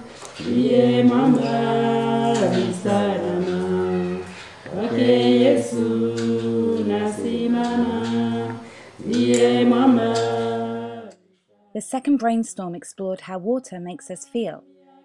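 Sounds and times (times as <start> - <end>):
a cappella voices singing: 0.0 - 12.8.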